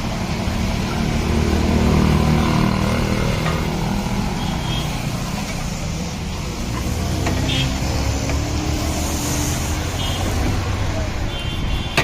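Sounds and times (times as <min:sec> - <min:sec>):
traffic passing: 0:00.0 - 0:12.0.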